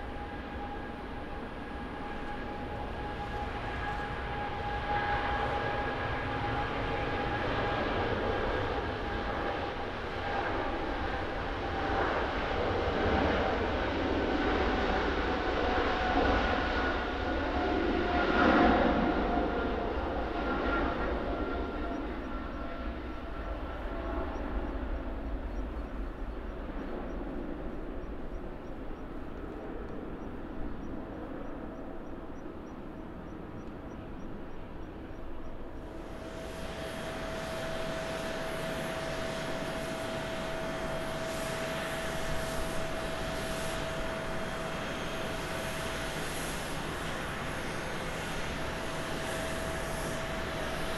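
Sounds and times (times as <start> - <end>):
high steady whine: 0.0 - 50.9
jet engines deep rumble: 0.0 - 50.9.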